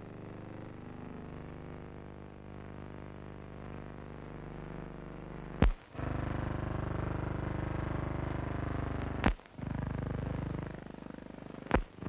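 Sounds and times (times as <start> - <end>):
electrical hum and buzz: 0.0 - 12.0.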